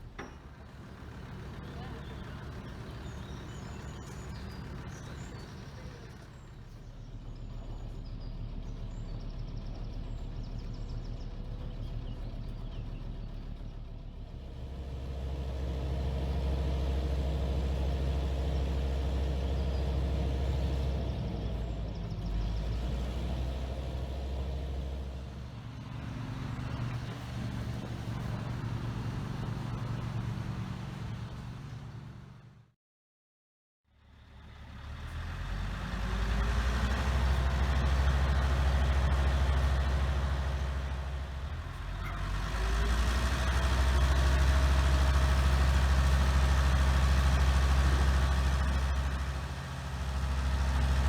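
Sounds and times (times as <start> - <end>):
truck diesel engine running: 0.0 - 32.7, 34.4 - 51.0.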